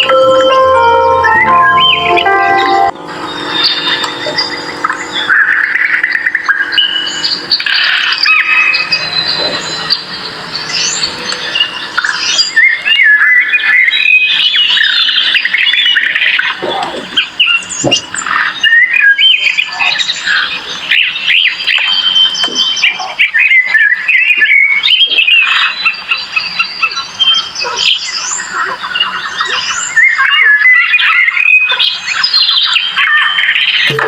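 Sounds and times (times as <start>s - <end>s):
birds chirping and squawking: 2.8s - 34.0s.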